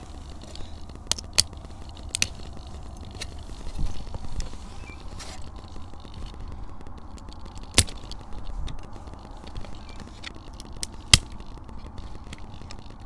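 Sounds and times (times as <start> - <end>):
faint ticks: 0.0 - 13.0
wind rumble on microphone: 0.0 - 13.0.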